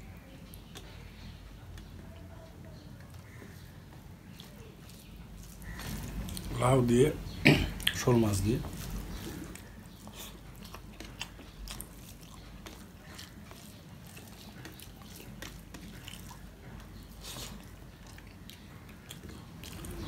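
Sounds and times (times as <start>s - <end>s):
chewing: 0.3s - 20.0s
fingers squishing rice: 0.4s - 7.2s, 7.9s - 20.0s.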